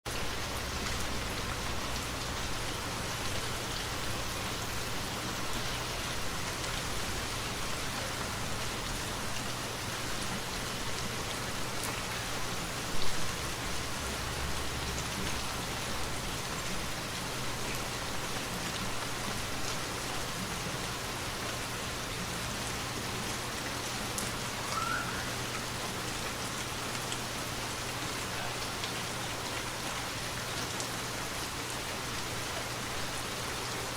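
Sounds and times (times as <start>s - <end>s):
rain pattering: 0.1s - 33.9s.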